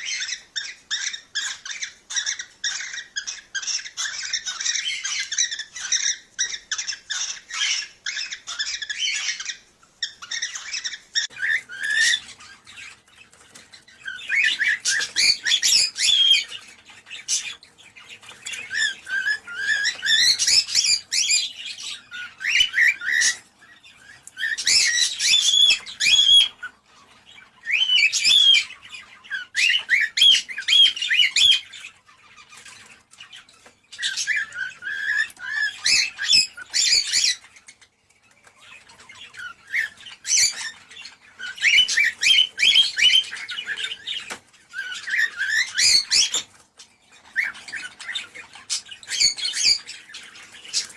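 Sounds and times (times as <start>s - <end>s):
cockatiels chirping and chattering: 0.0s - 50.9s.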